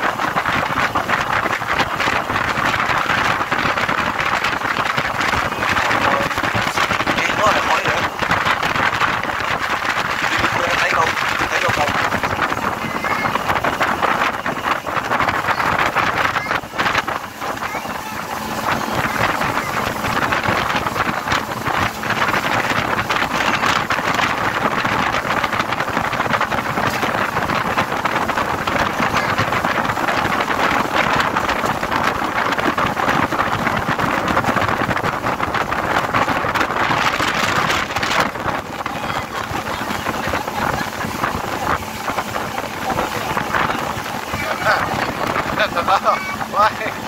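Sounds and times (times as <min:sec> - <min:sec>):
motorboat engine running: 0:00.0 - 0:47.0
wind buffeting microphone: 0:00.0 - 0:47.0.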